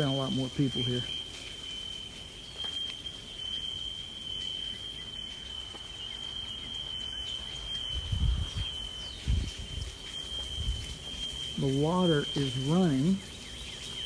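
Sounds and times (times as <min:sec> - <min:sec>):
fire alarms high-pitched tone: 0:00.0 - 0:13.4.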